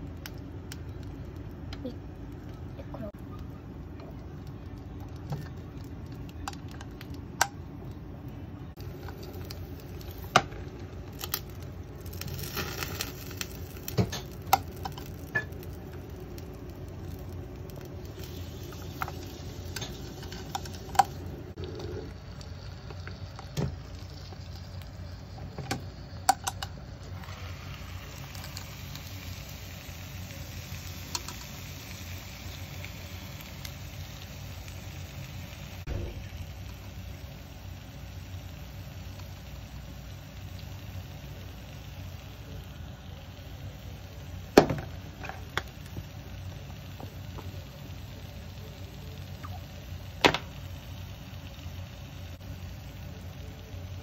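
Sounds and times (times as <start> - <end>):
gas burner roaring: 0.0 - 54.0
oil frying hiss: 0.0 - 54.0.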